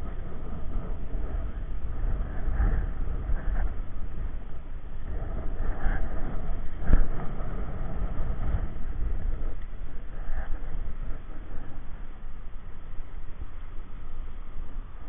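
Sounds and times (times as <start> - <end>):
skate wheels rolling on asphalt: 0.0 - 15.0
wind on microphone: 0.0 - 15.0.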